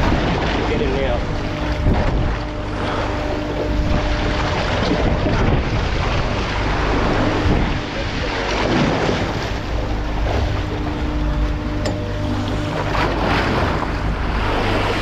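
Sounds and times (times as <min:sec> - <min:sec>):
faint machinery hum: 0:00.0 - 0:15.0
sea water splashing: 0:00.0 - 0:15.0
wind buffeting microphone: 0:00.0 - 0:15.0.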